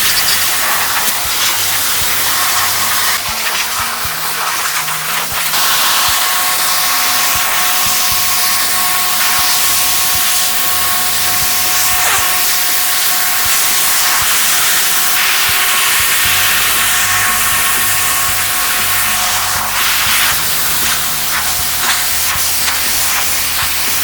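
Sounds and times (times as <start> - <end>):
background music with bass line: 0.0 - 24.0
loud hissing spray: 0.0 - 24.0.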